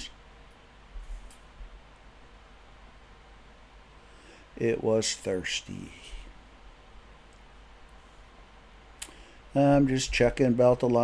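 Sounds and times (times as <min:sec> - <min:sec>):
faint low hum: 0:00.0 - 0:11.0
light hiss: 0:00.0 - 0:11.0.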